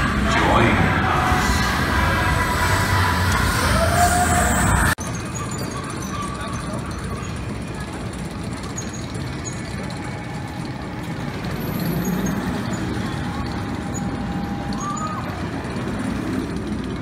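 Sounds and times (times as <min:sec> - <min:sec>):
roller coaster train rumbling: 0:00.0 - 0:17.0.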